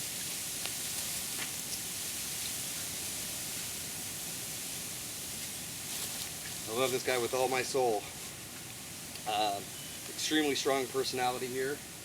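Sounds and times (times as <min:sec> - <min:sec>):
wind through bamboo leaves: 0:00.0 - 0:12.0.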